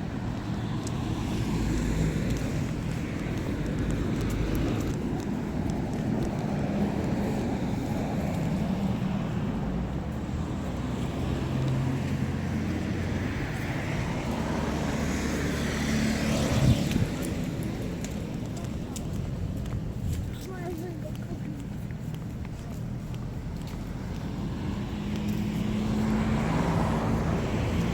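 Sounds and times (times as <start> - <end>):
engine hum: 0.0 - 27.9.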